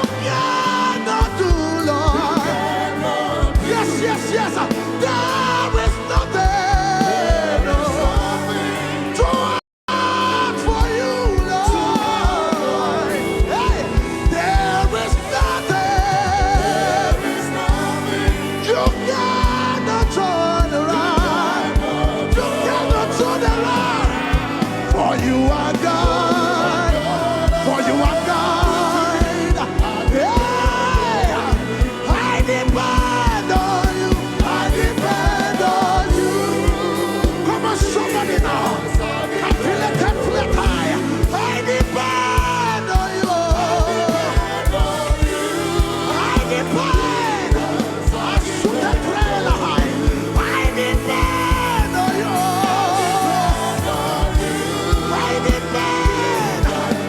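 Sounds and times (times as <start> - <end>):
person singing gospel with vibrato: 0.0 - 57.0.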